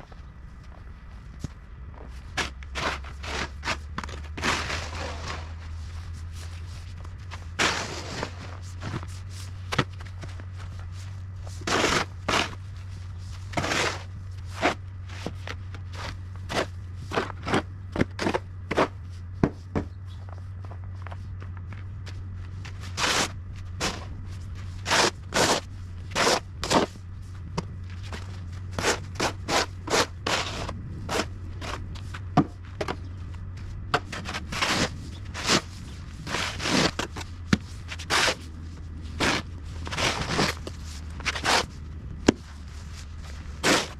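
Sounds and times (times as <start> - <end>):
steady low hum: 0.0 - 43.9
crunches and scrapes: 2.0 - 43.9.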